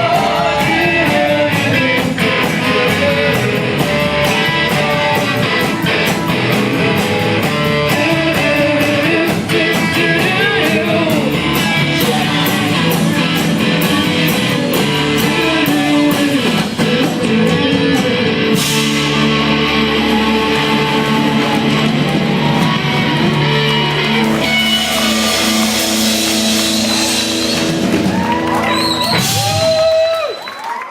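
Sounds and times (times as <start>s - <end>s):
rock band playing live: 0.0s - 30.3s.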